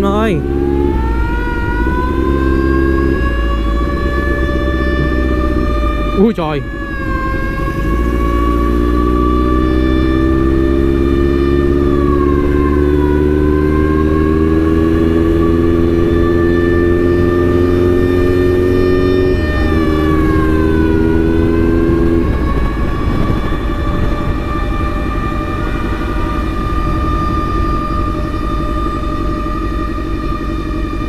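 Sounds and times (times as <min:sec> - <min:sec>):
emergency siren: 0:00.0 - 0:31.0
motorcycle engine: 0:00.0 - 0:31.0
road rumble: 0:00.0 - 0:31.0
traffic noise: 0:00.0 - 0:31.0.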